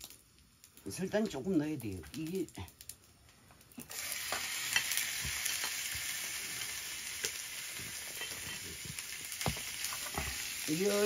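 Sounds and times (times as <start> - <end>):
pork sizzling in a pot: 0.0 - 11.0.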